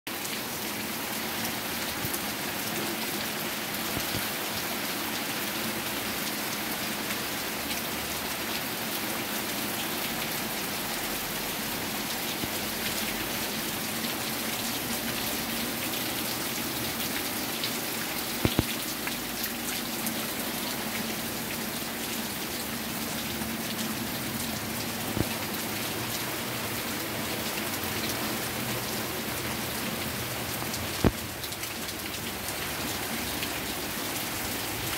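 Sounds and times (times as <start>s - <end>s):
rain pattering: 0.1s - 34.9s.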